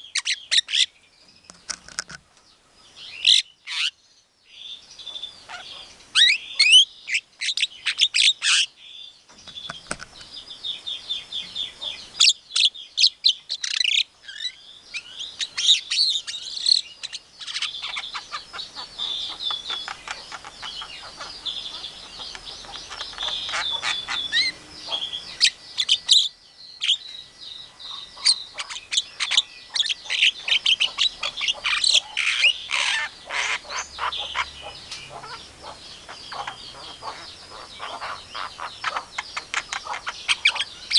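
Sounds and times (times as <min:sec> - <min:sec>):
bird singing chirps and whistles: 0:02.9 - 0:40.9.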